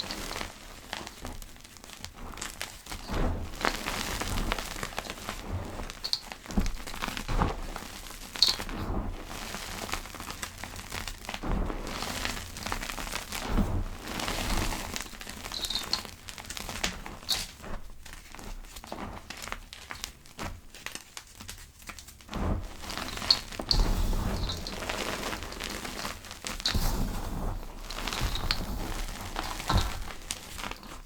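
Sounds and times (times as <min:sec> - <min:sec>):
fingers crushing soft powder: 0:00.0 - 0:20.7, 0:21.3 - 0:31.0.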